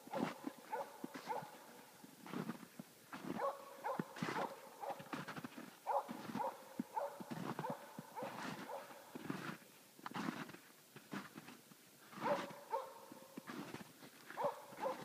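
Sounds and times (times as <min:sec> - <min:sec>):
footsteps crunching through snow: 0:00.0 - 0:15.0.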